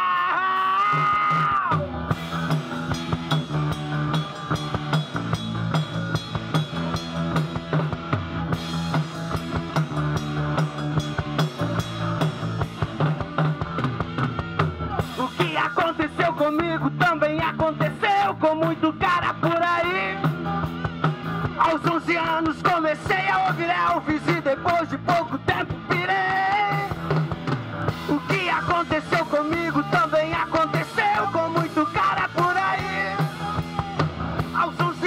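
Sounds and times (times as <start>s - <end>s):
drum kit: 0.0s - 35.0s
electric bass: 0.0s - 35.0s.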